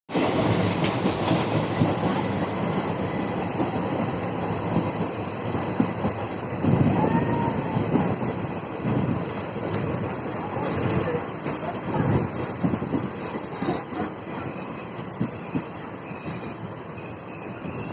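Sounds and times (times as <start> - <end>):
rail joint clicks: 0.1 - 17.9
train wheels rumbling on rails: 0.1 - 17.9.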